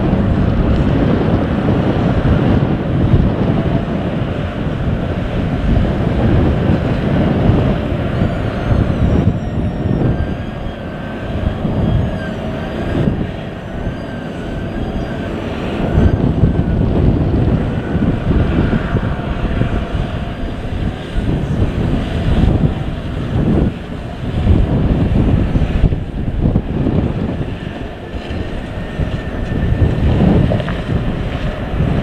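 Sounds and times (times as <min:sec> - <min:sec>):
locomotive rumbling: 0:00.0 - 0:32.0
wind on microphone: 0:00.0 - 0:32.0.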